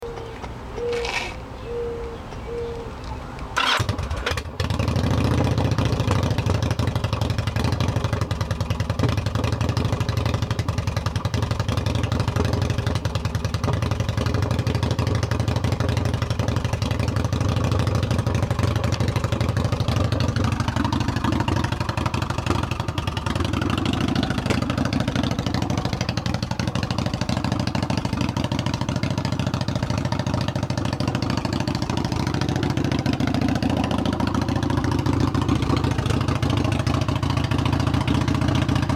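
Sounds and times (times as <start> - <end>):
motorcycle engine idling: 3.6 - 38.9.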